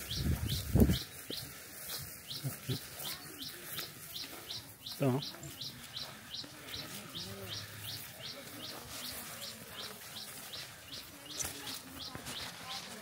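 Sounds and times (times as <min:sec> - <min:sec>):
bird chirping: 0:00.0 - 0:13.0
faint low voices: 0:00.0 - 0:13.0.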